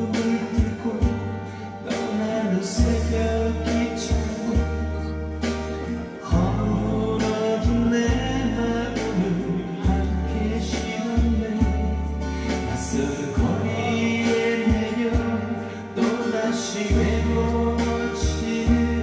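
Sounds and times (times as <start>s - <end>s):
backing track with bass and drums: 0.0s - 19.0s
man singing into microphone: 0.0s - 19.0s.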